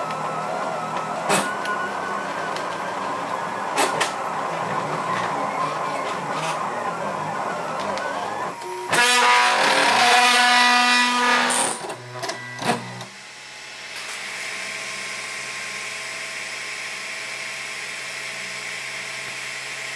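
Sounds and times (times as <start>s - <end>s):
printer whirring hum: 0.0s - 19.9s.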